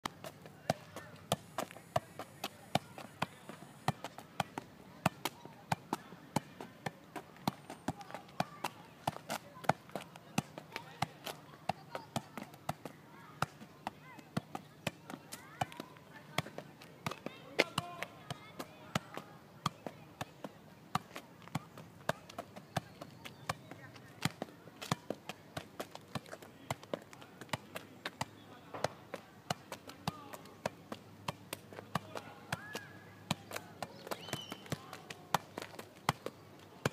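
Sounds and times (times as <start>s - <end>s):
football kicked with sharp thuds: 0.1s - 36.9s.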